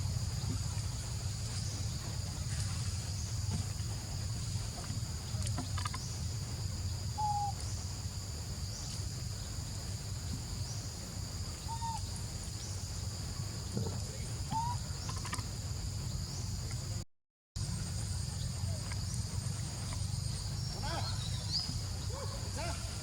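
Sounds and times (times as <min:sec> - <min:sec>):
insect chorus: 0:00.0 - 0:17.0, 0:17.6 - 0:23.0
low steady rumble: 0:00.0 - 0:17.0, 0:17.6 - 0:23.0.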